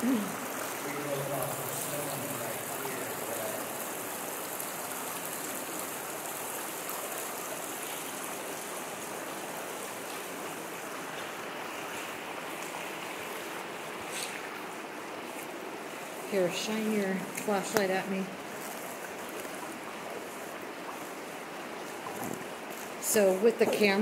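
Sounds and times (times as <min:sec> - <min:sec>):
water rushing through tunnel: 0:00.0 - 0:24.0.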